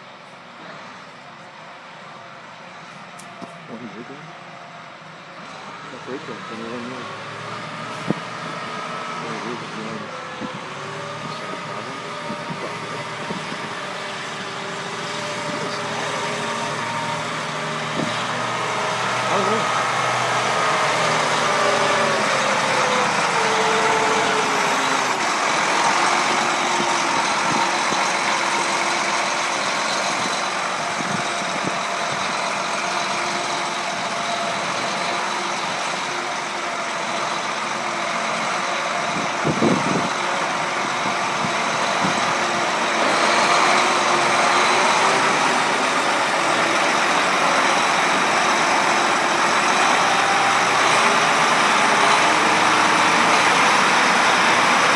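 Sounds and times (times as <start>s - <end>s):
diesel tractor engine idling: 0.0s - 54.9s.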